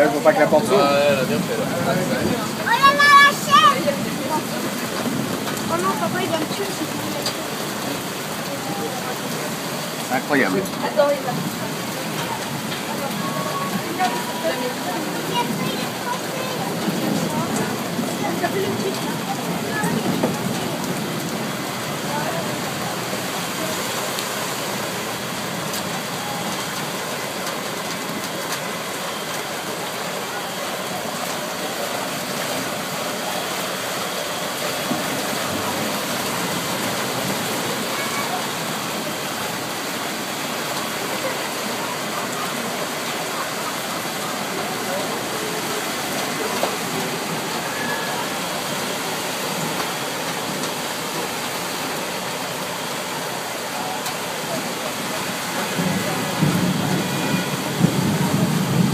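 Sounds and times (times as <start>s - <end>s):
floodwater running: 0.0s - 58.9s
heavy rain hiss: 0.0s - 58.9s.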